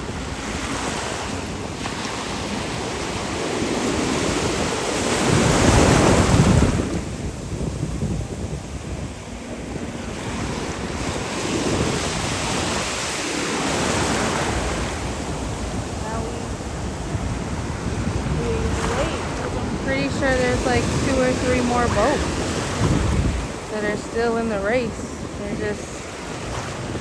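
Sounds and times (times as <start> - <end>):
ocean surf washing: 0.0 - 27.0
wave breaking: 0.0 - 27.0
wind buffeting microphone: 0.0 - 27.0.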